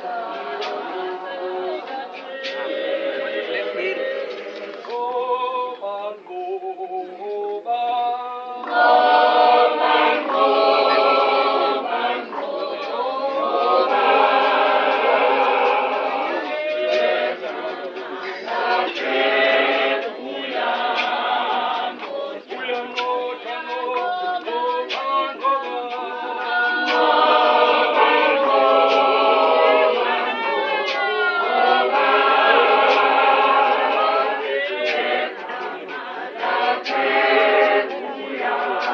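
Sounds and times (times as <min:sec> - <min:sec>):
congregation singing unaccompanied: 0:00.0 - 0:38.9.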